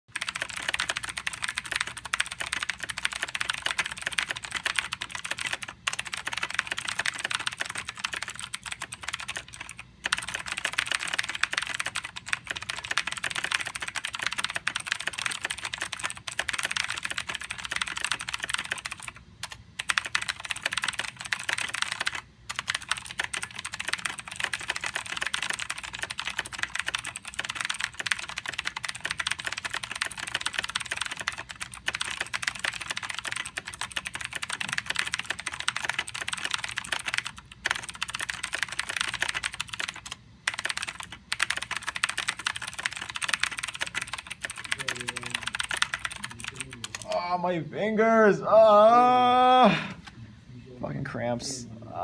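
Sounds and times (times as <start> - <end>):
fast typing on keyboard: 0.1 - 47.2.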